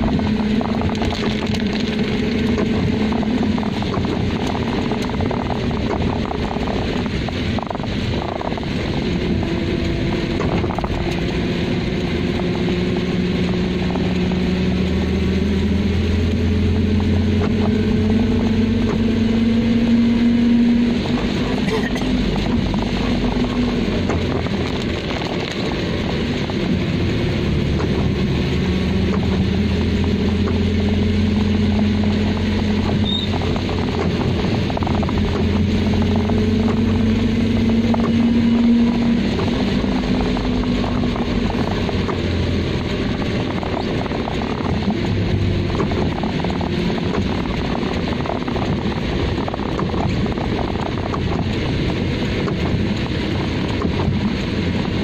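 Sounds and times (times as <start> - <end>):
car engine hum: 0.0 - 55.0
tyres hissing on wet road: 0.0 - 55.0.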